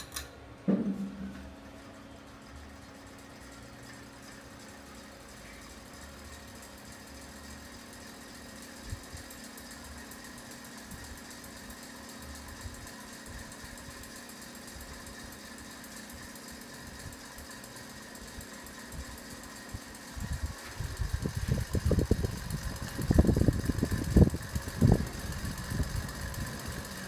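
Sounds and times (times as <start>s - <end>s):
ceiling fan motor hum: 0.0s - 27.0s.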